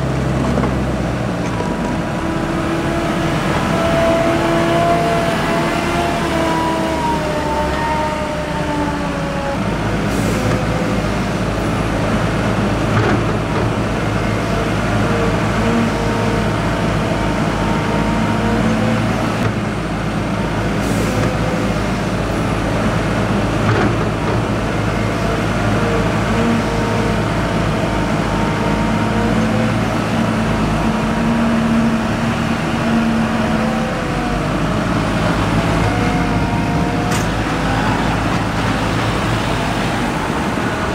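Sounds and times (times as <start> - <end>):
diesel engine droning with whine: 0.0 - 40.9.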